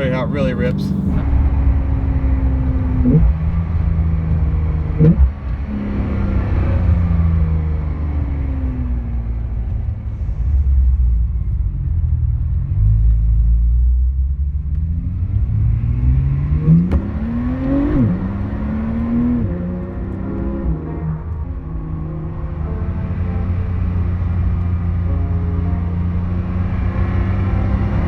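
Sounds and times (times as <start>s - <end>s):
sports car engine accelerating: 0.0s - 28.0s.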